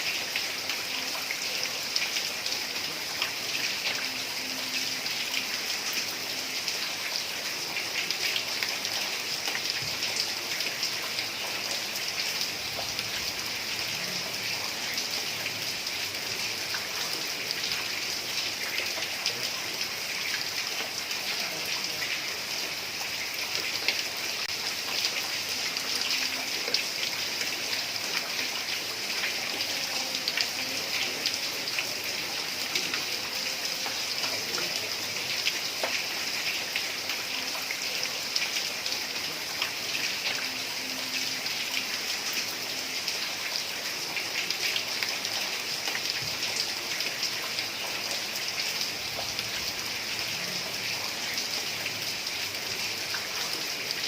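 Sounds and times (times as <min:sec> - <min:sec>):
heavy rain on roof tiles: 0:00.0 - 0:54.0.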